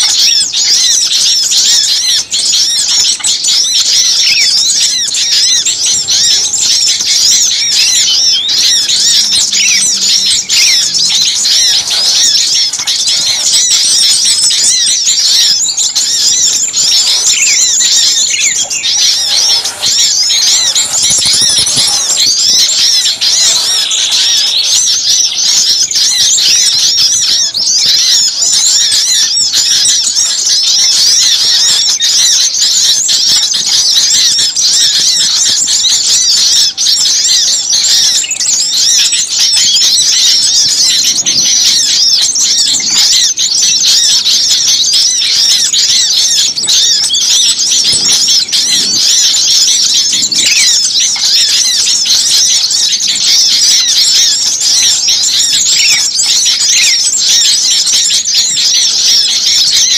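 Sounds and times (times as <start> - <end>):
songbirds chirping and chattering: 0.0 - 59.9.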